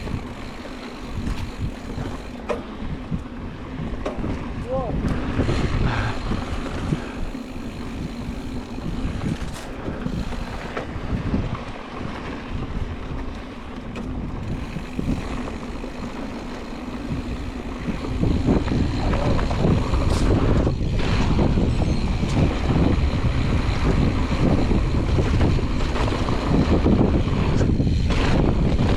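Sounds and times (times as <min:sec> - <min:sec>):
bike tyres on dirt trail: 0:00.0 - 0:28.9
wind buffeting microphone: 0:00.0 - 0:28.9.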